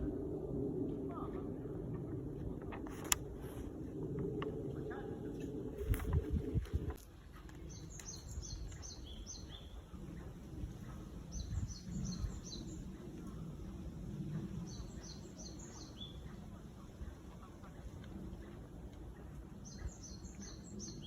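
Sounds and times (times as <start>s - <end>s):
low background rumble: 0.0s - 21.0s
songbird chirping: 0.1s - 21.0s.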